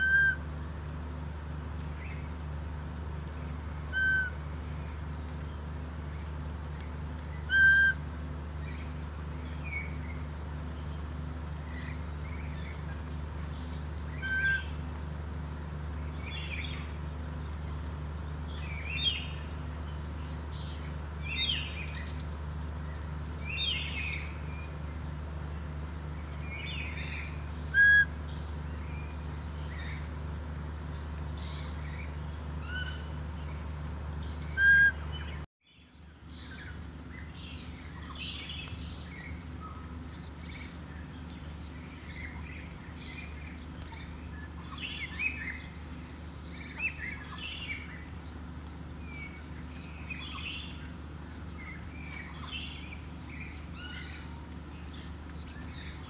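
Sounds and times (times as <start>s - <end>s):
birds chirping and whistling: 0.0s - 0.5s, 3.4s - 6.6s, 7.3s - 56.0s
steady low hum: 0.0s - 56.0s.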